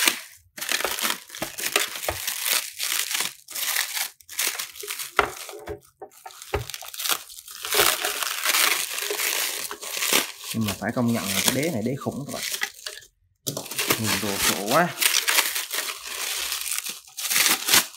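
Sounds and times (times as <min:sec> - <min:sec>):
plastic wrapping crinkling: 0:00.0 - 0:17.9.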